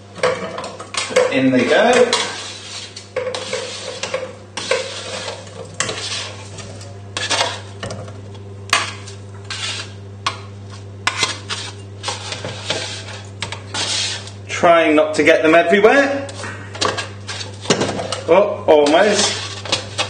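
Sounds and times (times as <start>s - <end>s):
spatula scraping baking tray: 0.4s - 7.8s, 8.7s - 14.4s, 15.6s - 20.0s.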